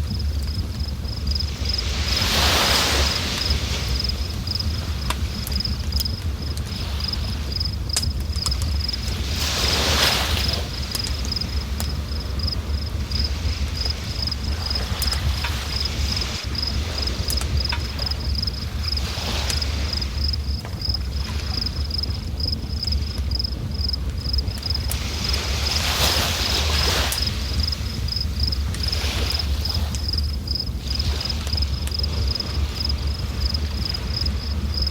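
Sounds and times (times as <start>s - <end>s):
insect chirping: 0.0s - 34.9s
river water rumbling: 0.0s - 34.9s.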